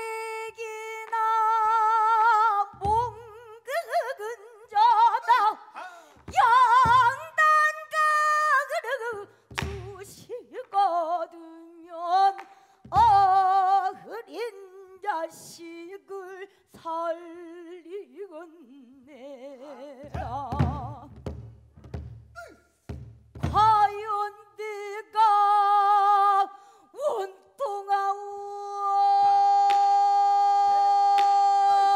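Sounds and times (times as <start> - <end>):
woman singing with heavy vibrato: 0.0 - 21.2, 23.4 - 31.9.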